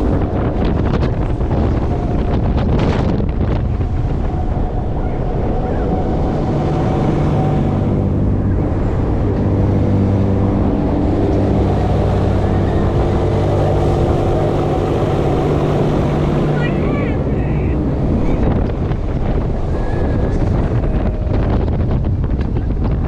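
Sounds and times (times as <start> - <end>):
fairground ride machinery hum: 0.0 - 23.0
wind buffeting microphone: 0.0 - 23.0.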